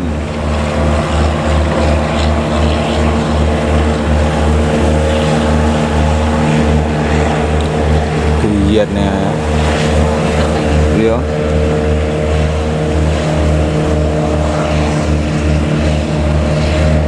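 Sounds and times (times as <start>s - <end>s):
boat engine throbbing: 0.0s - 17.0s.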